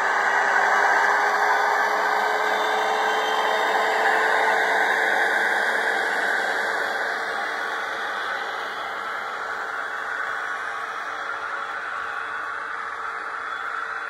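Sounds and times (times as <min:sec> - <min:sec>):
faint motor whine: 0:00.0 - 0:14.0
model train rushing on track: 0:00.0 - 0:14.0.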